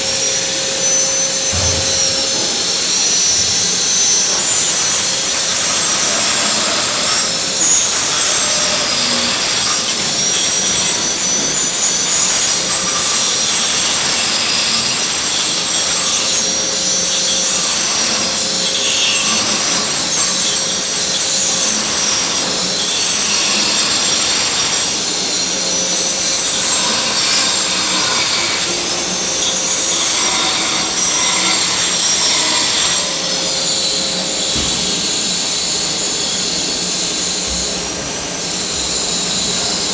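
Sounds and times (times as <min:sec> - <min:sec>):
power tools grinding and cutting: 0:00.0 - 0:39.9.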